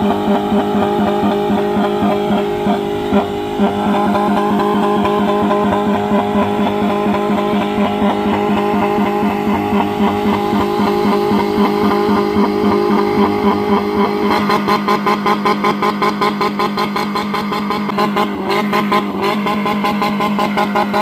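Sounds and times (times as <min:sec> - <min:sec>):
sustained drone: 0:00.0 - 0:21.0.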